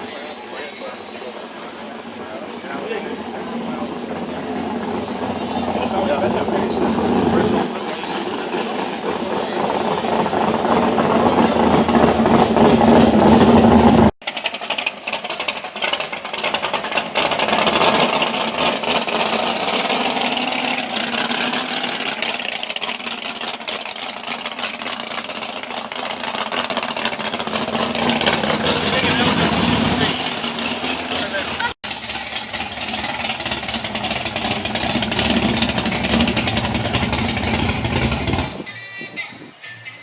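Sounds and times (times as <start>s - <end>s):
car engine idling: 0.0s - 38.7s.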